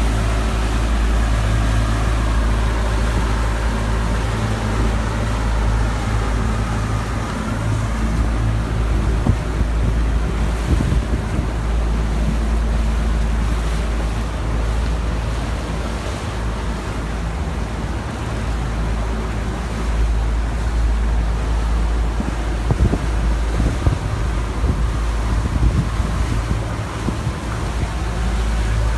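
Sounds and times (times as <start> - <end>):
boat engine rumble: 0.0 - 28.9
rushing wind: 0.0 - 28.9
water rushing: 0.0 - 28.9.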